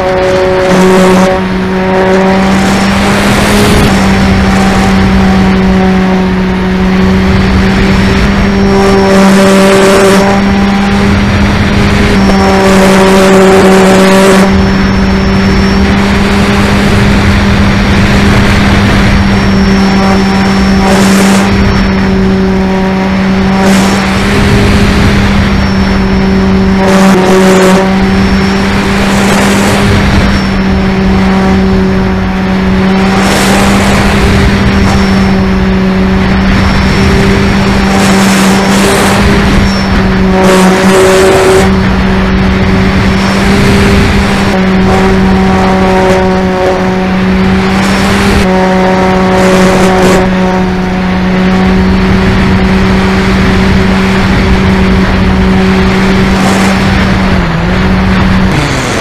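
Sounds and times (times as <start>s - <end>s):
model plane motor droning: 0.0s - 59.0s.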